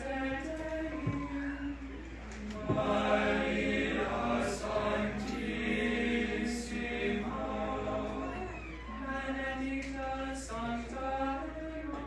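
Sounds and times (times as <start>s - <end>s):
male choir singing unaccompanied: 0.0s - 12.0s.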